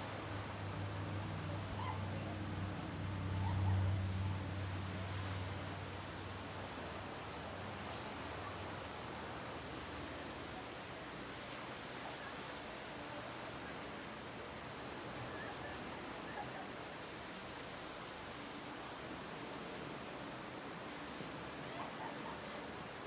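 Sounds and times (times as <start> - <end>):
ocean waves breaking on beach: 0.0 - 23.0.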